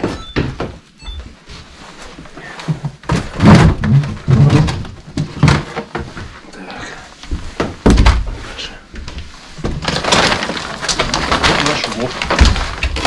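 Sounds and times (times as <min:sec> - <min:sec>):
thunks and clatter in freezer: 0:02.4 - 0:13.0.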